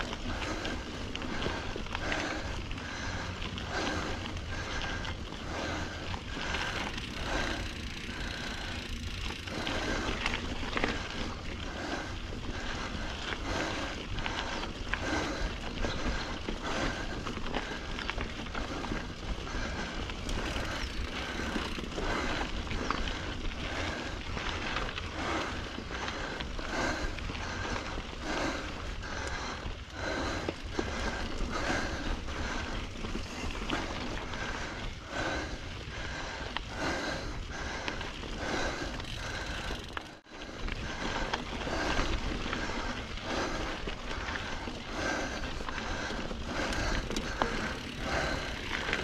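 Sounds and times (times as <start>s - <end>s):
bike knocking and rattling: 0.0s - 49.0s
bike tyres rumbling over dirt: 0.0s - 49.0s.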